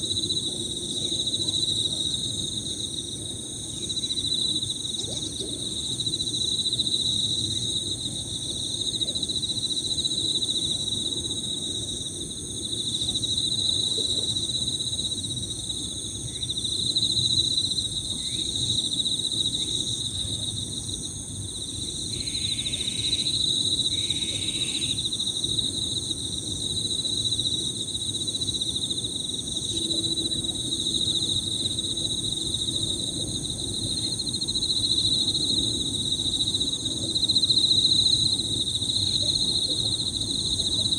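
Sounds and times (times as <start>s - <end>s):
crickets trilling: 0.0s - 40.9s
high insect trill: 0.0s - 40.9s.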